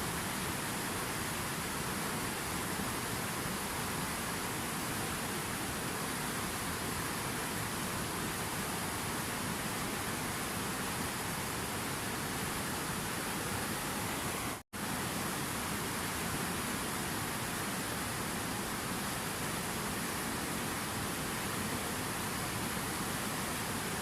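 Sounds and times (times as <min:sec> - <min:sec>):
rushing water: 0:00.0 - 0:24.0.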